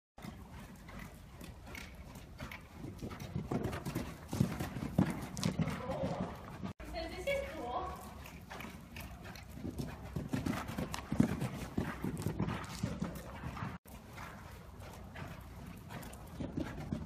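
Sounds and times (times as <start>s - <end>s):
horse hoofbeats on soft dirt: 0.2s - 17.0s.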